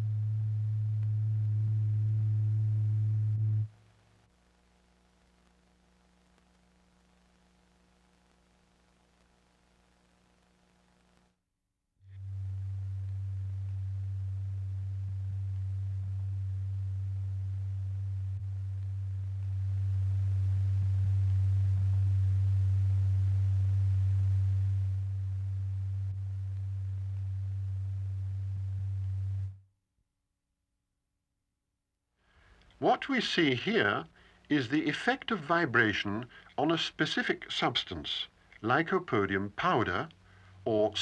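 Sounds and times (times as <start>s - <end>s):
low steady pure tone: 0.0s - 41.0s.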